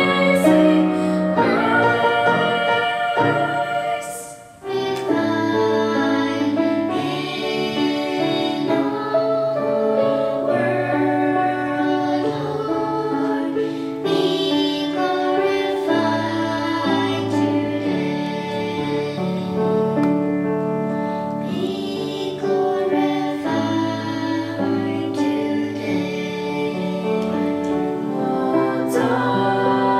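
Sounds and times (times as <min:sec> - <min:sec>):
girls singing into a microphone: 0:00.0 - 0:20.3, 0:21.2 - 0:29.9
instrumental accompaniment: 0:00.0 - 0:29.9.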